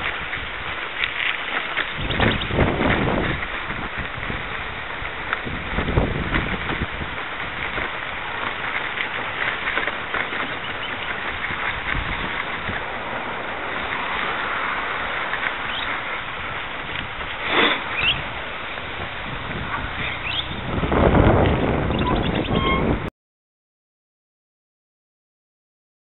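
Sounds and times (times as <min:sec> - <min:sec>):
wind rushing over microphone: 0:00.0 - 0:23.1.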